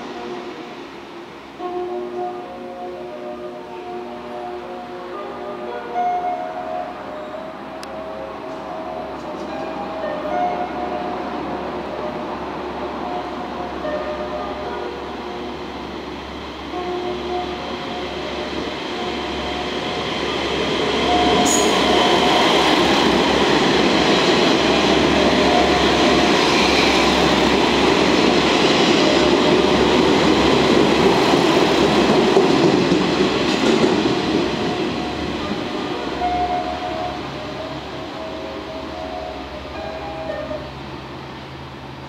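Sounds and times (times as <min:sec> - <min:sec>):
diesel railcars passing: 0:00.0 - 0:42.0.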